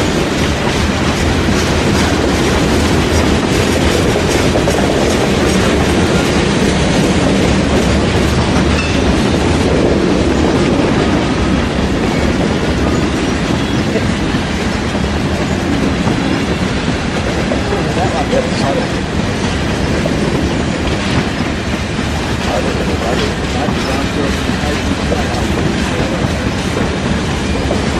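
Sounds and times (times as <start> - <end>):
steel wheels rumbling on rails: 0.0 - 27.9.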